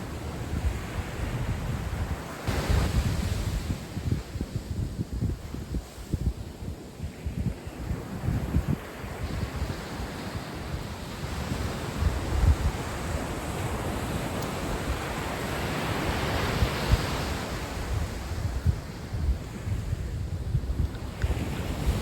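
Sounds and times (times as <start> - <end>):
waves breaking on beach: 0.0 - 22.0
wind buffeting microphone: 0.0 - 22.0.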